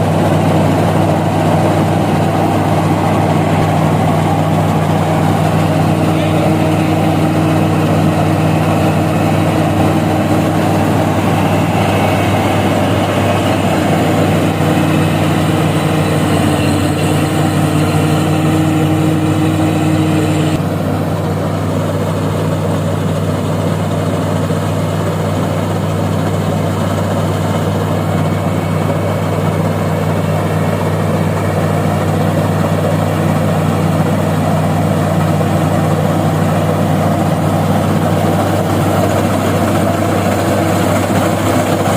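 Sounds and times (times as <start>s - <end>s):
combine harvester engine: 0.0s - 41.9s.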